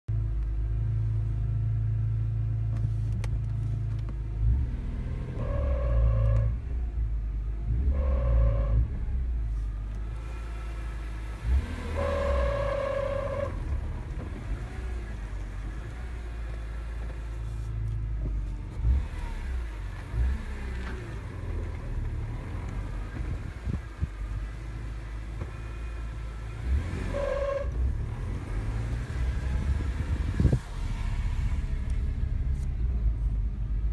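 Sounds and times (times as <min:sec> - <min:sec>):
car engine idling: 0:00.1 - 0:33.9
higher-pitched clutch tone: 0:02.7 - 0:33.9.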